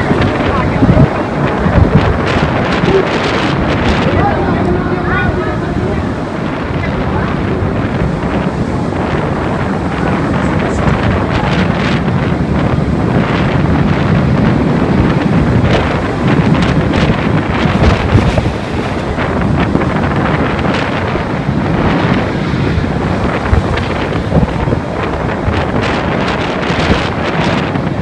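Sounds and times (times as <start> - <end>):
driving rain: 0.0 - 28.0
strong wind buffeting microphone: 0.0 - 28.0.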